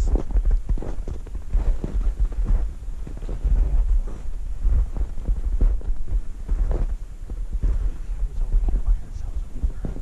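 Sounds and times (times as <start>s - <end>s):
footsteps in snow: 0.0s - 10.0s.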